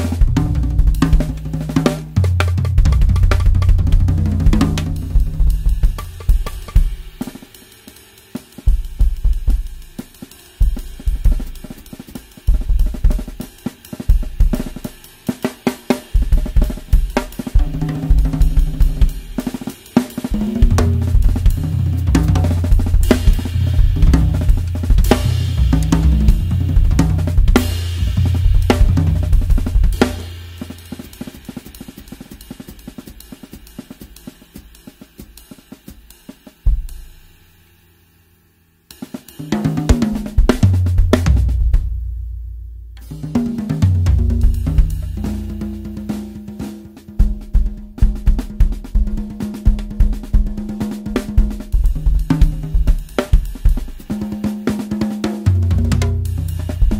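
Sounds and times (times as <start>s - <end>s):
acoustic drum kit playing: 0.0s - 37.4s, 38.9s - 56.9s.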